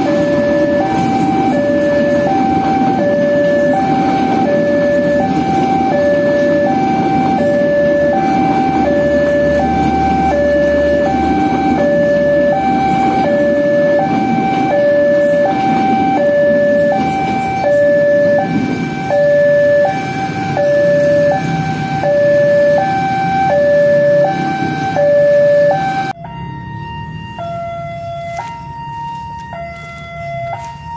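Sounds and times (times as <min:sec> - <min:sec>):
train rumbling past: 0:00.0 - 0:30.9
two-tone crossing alarm: 0:00.0 - 0:30.9.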